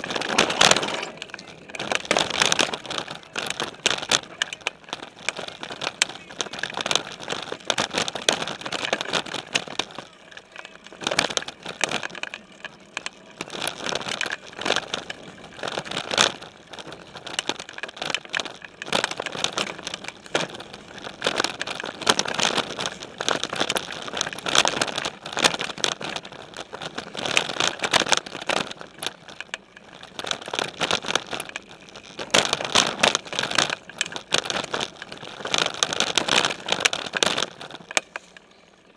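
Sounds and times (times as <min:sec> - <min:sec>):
mountain bike rattling over rocks: 0:00.0 - 0:38.9.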